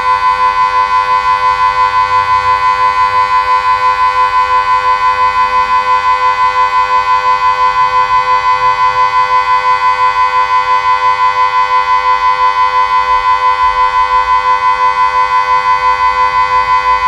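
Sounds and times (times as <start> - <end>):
pulsing civil defence siren: 0.0 - 17.0.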